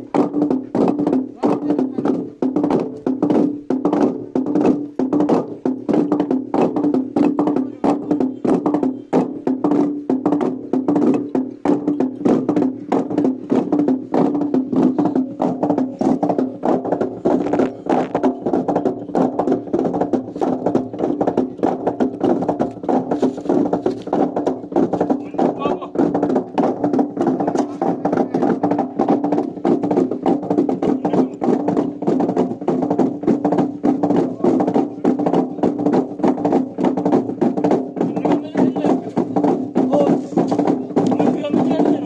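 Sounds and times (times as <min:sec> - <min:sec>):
wooden log drum beating: 0:00.0 - 0:42.0.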